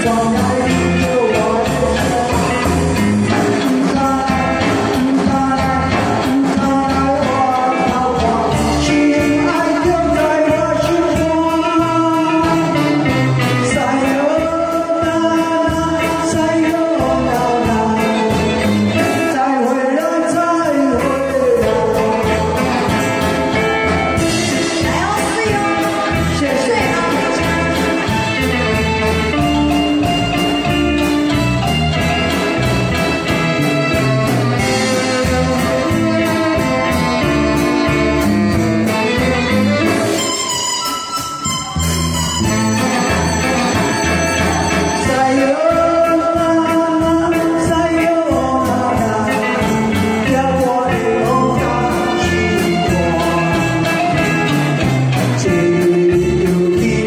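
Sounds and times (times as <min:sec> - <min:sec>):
man and woman singing duet: 0:00.0 - 0:29.4, 0:34.5 - 0:40.3, 0:43.3 - 0:57.0
amplified band with steady beat: 0:00.0 - 0:57.0.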